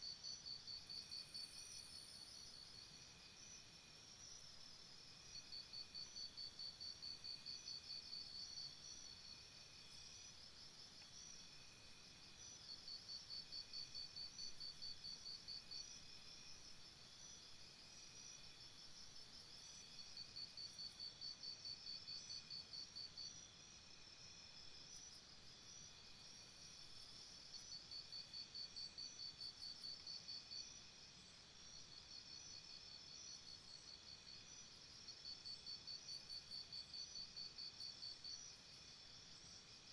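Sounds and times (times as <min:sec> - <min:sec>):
high hum of insects: 0:00.0 - 0:39.9.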